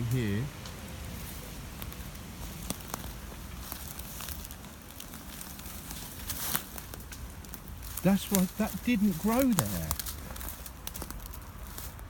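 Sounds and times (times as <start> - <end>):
dry twigs cracking: 0.0 - 12.0.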